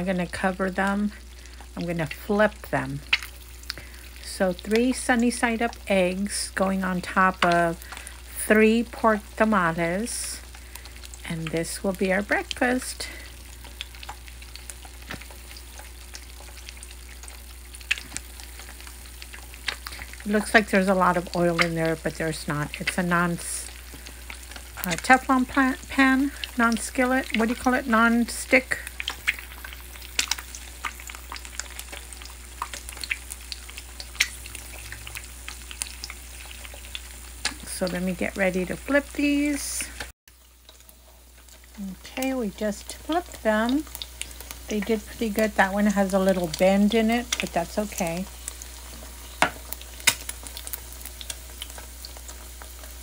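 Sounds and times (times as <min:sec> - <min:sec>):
eggs sizzling in oil: 0:00.0 - 0:53.0
oil popping and crackling: 0:00.0 - 0:53.0.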